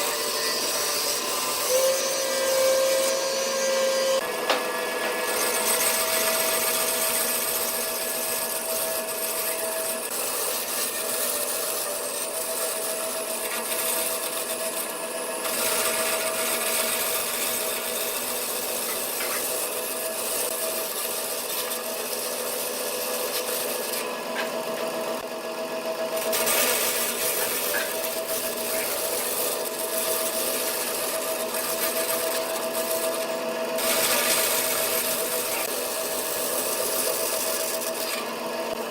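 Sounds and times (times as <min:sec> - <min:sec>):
lathe motor hum: 0:00.0 - 0:38.9
tool scraping spinning wood: 0:00.0 - 0:38.9.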